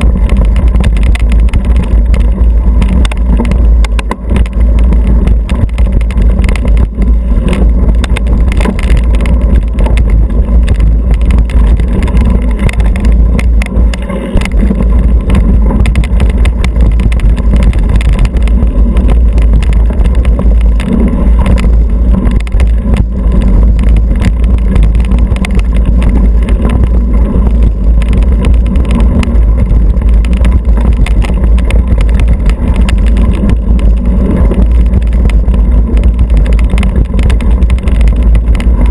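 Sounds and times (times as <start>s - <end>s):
bike knocking and rattling: 0.0s - 38.9s
bike tyre rumble: 0.0s - 38.9s
wind buffeting microphone: 0.0s - 38.9s.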